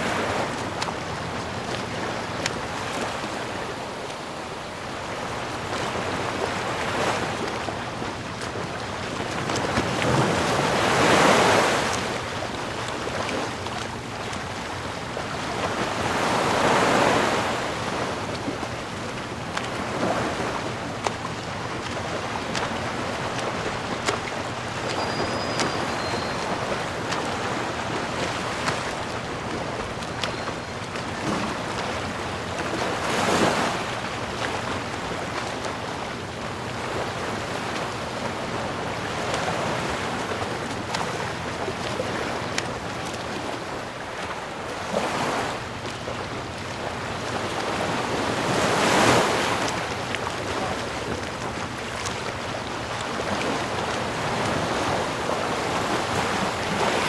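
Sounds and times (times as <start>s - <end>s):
loud breaking waves: 0.0s - 45.7s, 46.8s - 57.0s
ocean waves washing in: 0.0s - 57.0s.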